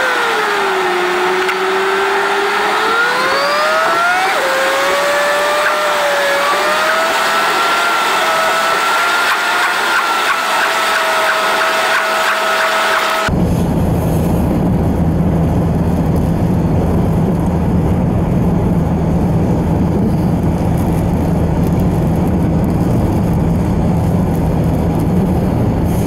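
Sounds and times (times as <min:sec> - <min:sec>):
car engine and road noise: 0:00.0 - 0:26.0
engine whine: 0:00.0 - 0:26.0.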